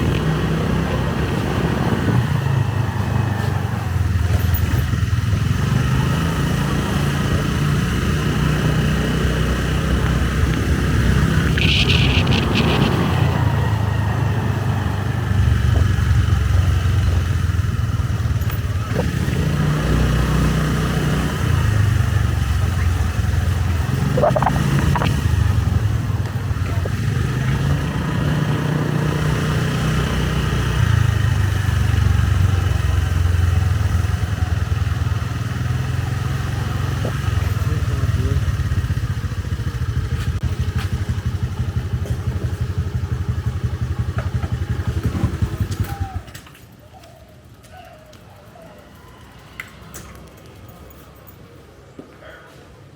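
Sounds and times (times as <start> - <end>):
motorbike engine running: 0.0 - 46.4.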